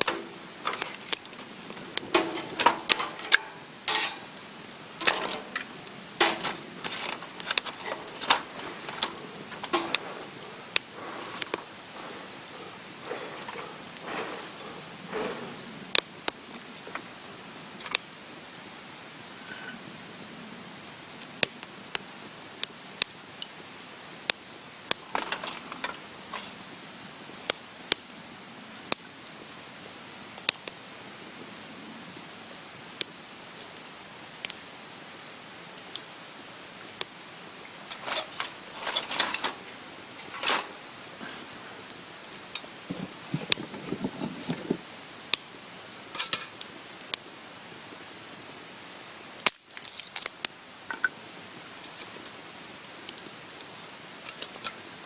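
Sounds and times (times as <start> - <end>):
fire hissing: 0.0 - 55.0
wood campfire crackling: 0.0 - 55.0.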